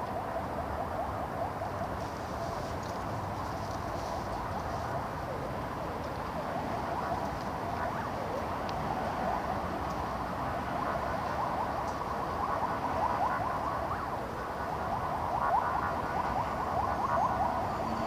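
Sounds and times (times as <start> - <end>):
city traffic hum: 0.0 - 18.0
distant siren yelping: 0.0 - 18.0.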